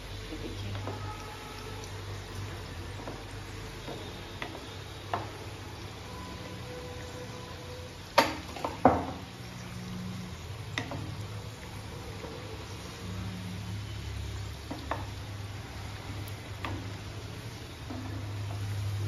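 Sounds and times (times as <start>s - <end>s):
fritters sizzling in hot oil: 0.0s - 19.0s.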